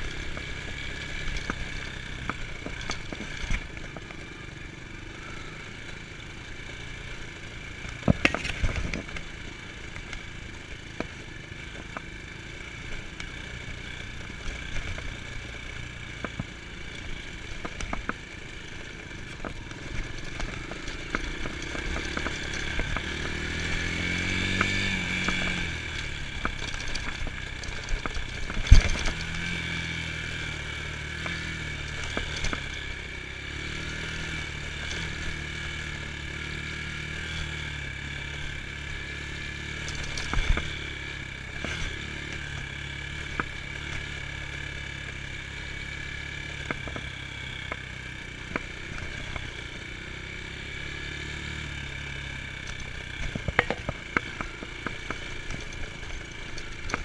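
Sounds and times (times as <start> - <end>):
bike rattles and clicks: 0.0 - 57.0
dirt bike engine running: 0.0 - 57.0.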